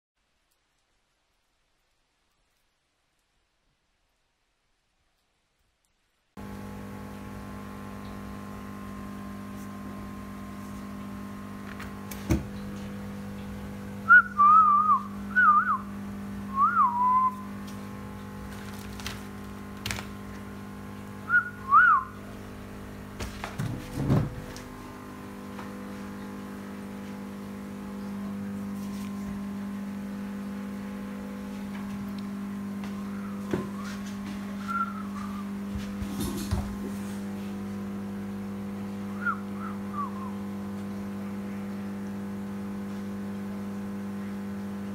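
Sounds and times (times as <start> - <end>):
steady appliance hum: 6.4 - 44.9.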